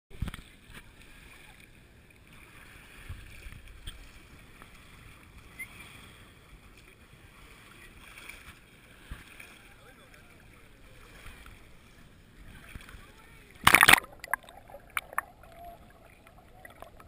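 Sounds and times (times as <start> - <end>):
water: 0.1 - 17.0
wind: 0.1 - 17.0.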